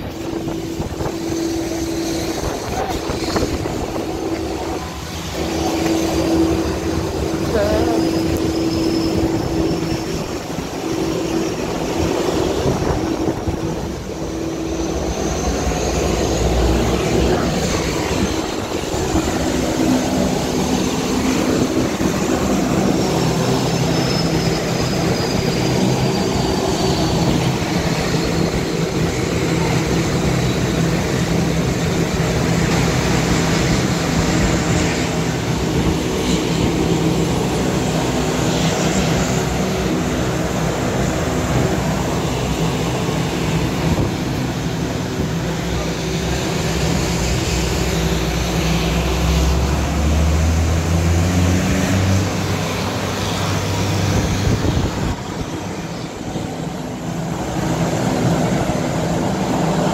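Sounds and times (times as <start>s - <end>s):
faint high whine: 0.0s - 49.1s
aircraft engines droning: 0.0s - 59.9s.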